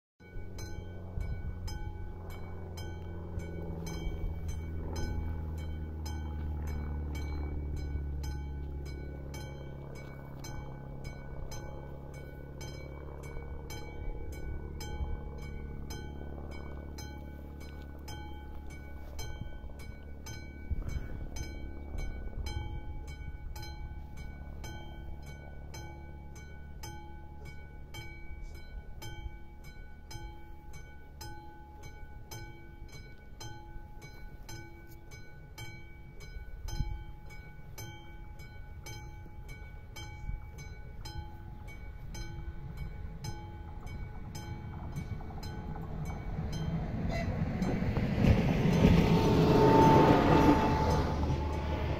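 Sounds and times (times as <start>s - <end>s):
approaching railbus: 0.2s - 51.9s
level-crossing warning bell ringing: 0.2s - 51.9s
wind rumble on microphone: 0.2s - 51.9s.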